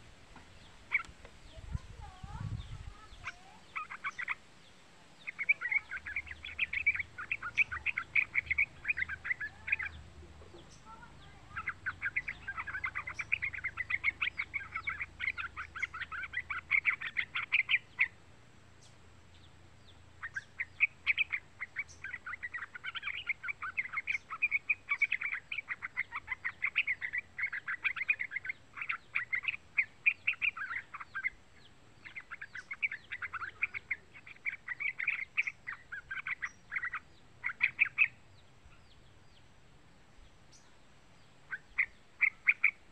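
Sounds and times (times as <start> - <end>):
bulbul chattering song: 0.6 - 42.9.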